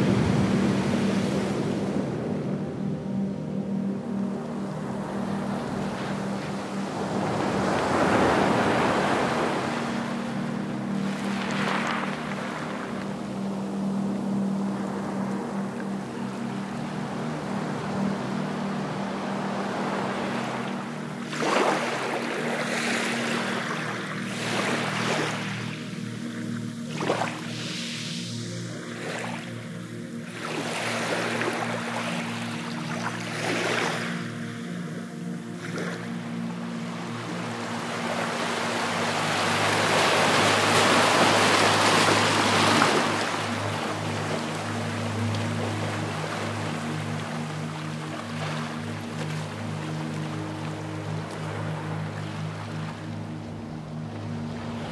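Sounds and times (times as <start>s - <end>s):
wave splash: 0.0s - 2.8s, 4.2s - 54.9s
low hum: 0.0s - 54.9s
sea waves lapping: 0.0s - 54.9s.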